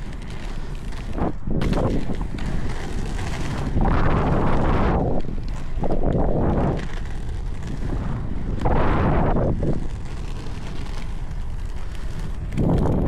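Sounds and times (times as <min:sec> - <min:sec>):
skate wheels rolling on asphalt: 0:00.0 - 0:13.0
wind buffeting microphone: 0:00.0 - 0:13.0.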